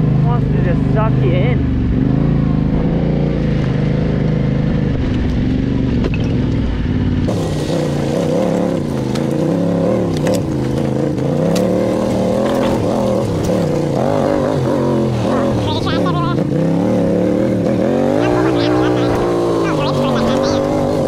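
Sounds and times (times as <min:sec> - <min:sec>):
low rumble: 0:00.0 - 0:18.0
motorcycle engine running: 0:00.0 - 0:21.0.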